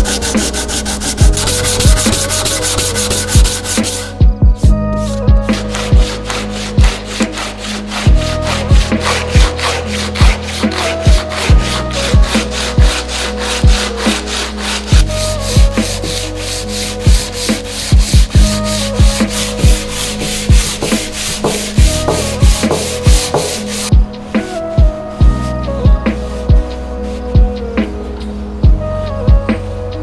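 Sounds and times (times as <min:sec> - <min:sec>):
fast rasping strokes: 0:00.0 - 0:04.2, 0:05.4 - 0:27.3
background music with deep pulses: 0:00.0 - 0:30.0.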